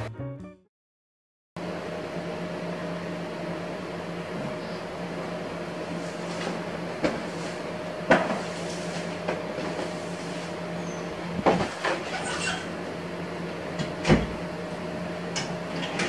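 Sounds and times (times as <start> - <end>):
steady hum: 1.6 - 16.0.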